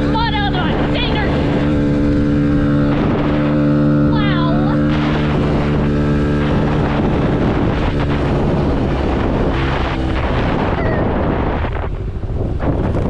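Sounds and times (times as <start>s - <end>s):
dirt bike engine running: 0.0s - 13.0s
wind noise on microphone: 0.0s - 13.0s.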